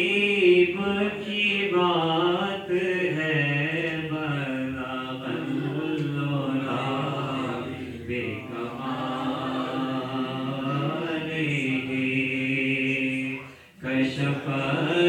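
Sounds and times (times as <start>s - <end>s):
man chanting unaccompanied: 0.0s - 15.0s.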